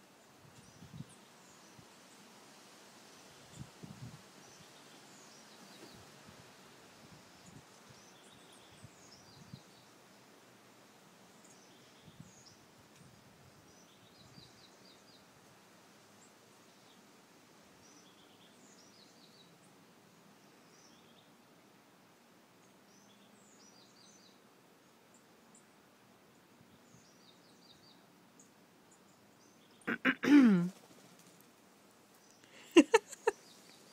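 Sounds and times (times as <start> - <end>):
background hiss: 0.0 - 33.9
songbirds chirping: 0.0 - 33.9.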